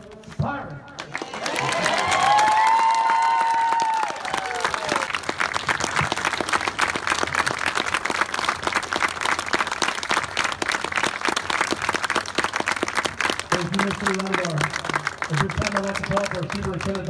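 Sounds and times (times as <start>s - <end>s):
crowd applauding: 1.0s - 17.0s.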